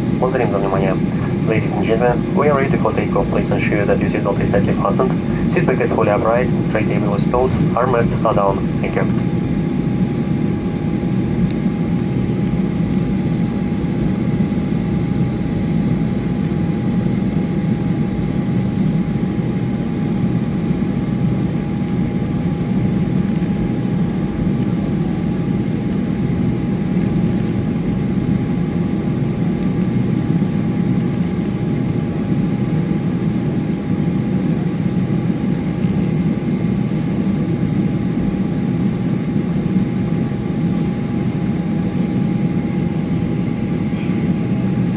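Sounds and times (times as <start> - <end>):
aircraft cabin jet engine noise: 0.0 - 44.9.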